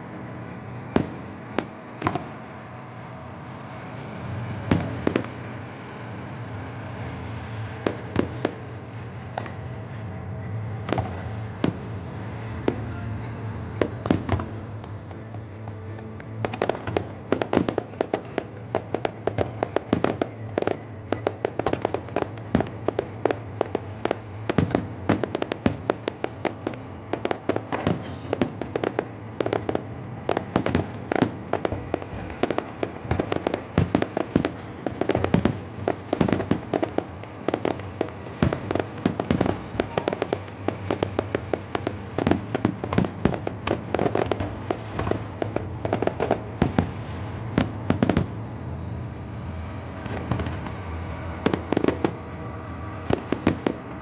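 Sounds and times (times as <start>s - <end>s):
fireworks bangs and crackles: 0.0s - 54.0s
low hum: 0.0s - 54.0s.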